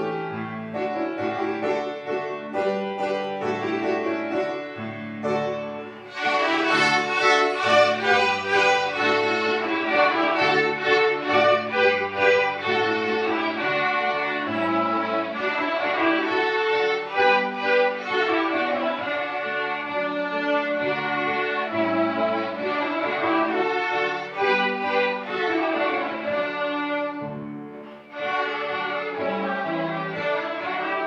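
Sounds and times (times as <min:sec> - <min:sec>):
violin ensemble playing: 0:00.0 - 0:31.0.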